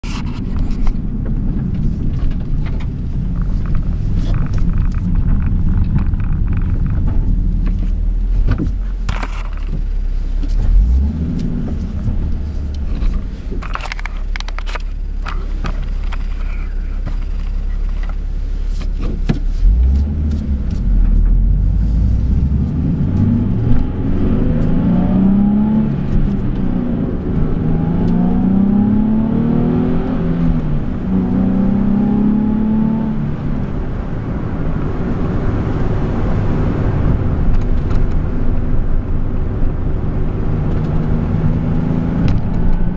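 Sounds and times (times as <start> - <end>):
tyre and road rumble: 0.0 - 42.9
car engine revving: 0.8 - 42.9.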